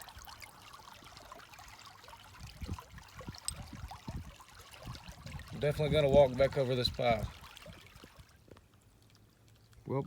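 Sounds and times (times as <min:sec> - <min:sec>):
creek water trickling: 0:00.0 - 0:10.0.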